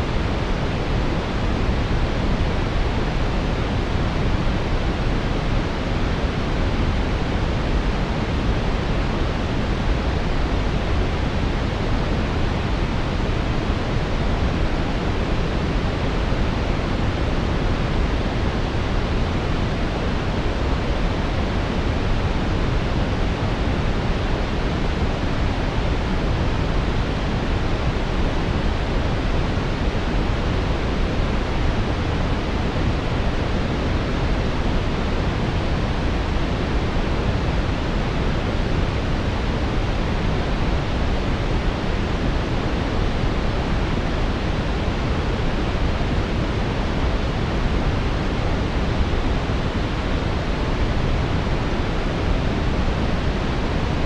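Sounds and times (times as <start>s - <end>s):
brown noise hiss: 0.0s - 54.0s.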